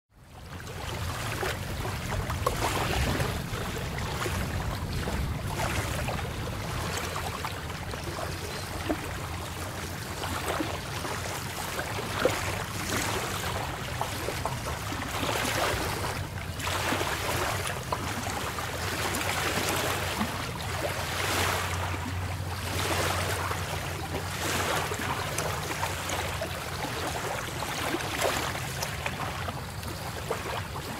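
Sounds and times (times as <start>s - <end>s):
sea waves breaking on shore: 0.2s - 30.9s.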